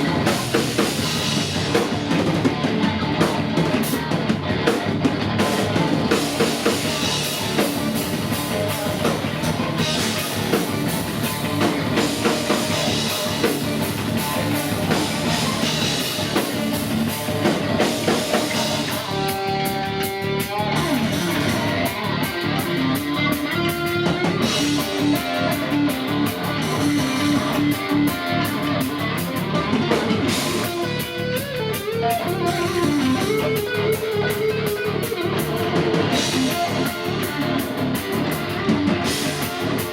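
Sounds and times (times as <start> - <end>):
distorted electric guitars: 0.0 - 39.9
heavy metal band playing: 0.0 - 39.9
pounding drum kit: 0.0 - 39.9.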